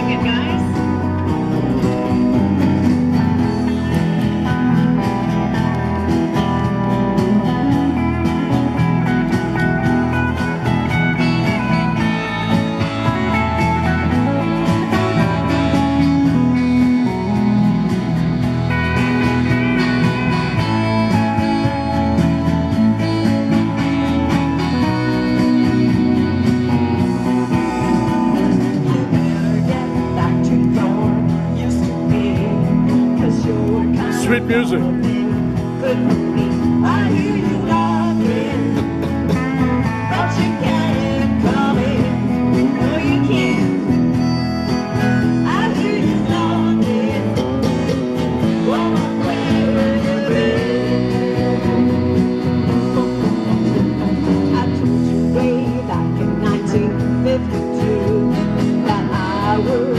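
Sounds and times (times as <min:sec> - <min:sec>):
acoustic guitar: 0:00.0 - 0:59.9
electric guitar through amplifier: 0:00.0 - 0:59.9.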